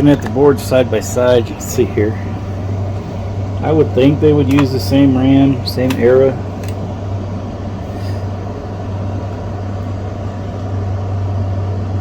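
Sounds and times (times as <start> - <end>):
air conditioner hum and rush: 0.0 - 12.0.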